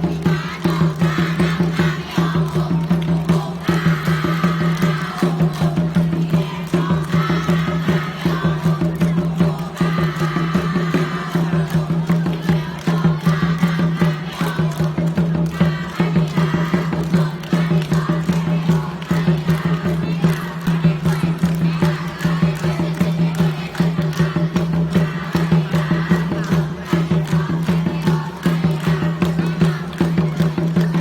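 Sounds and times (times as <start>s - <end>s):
loud music with fast drumbeat: 0.0s - 31.0s.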